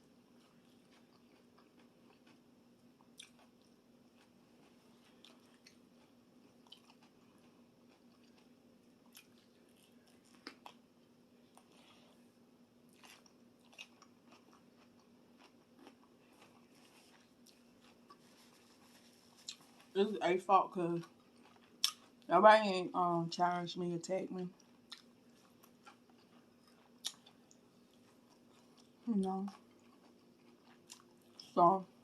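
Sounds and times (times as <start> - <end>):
steady low hum: 0.0 - 32.0
person chewing and crunching: 0.1 - 20.0, 20.7 - 22.3, 24.6 - 32.0.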